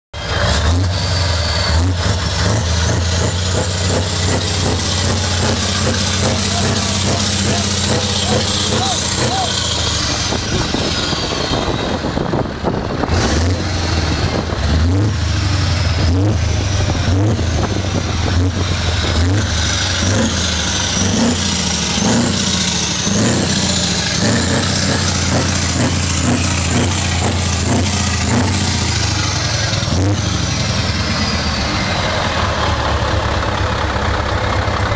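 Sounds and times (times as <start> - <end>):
diesel truck engine revving: 0.2 - 34.9.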